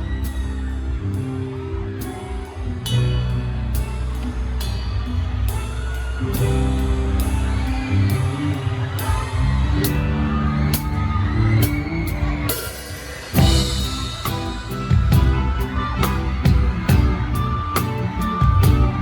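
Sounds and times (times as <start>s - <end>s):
live pop band playing: 0.0s - 19.0s
drum kit beat: 3.8s - 19.0s.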